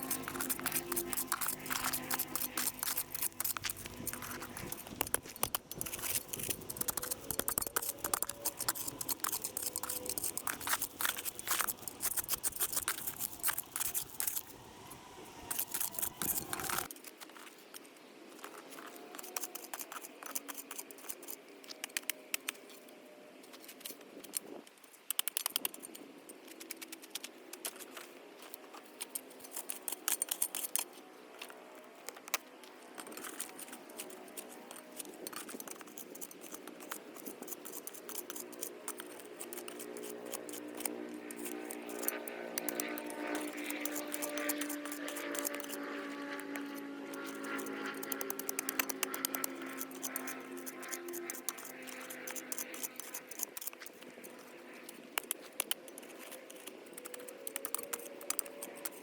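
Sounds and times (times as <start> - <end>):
shovel scraping and crunching soil: 0.0 - 14.6, 15.2 - 17.7, 27.0 - 59.0.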